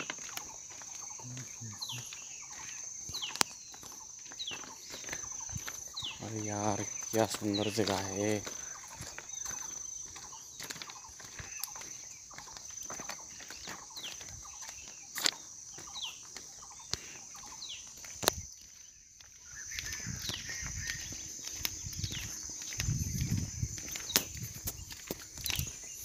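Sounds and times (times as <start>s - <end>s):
footsteps on stones: 0.0s - 26.0s
insect drone: 0.0s - 26.0s.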